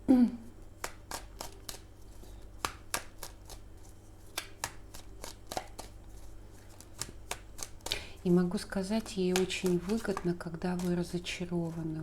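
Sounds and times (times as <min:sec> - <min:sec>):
cards being shuffled: 0:00.8 - 0:12.0.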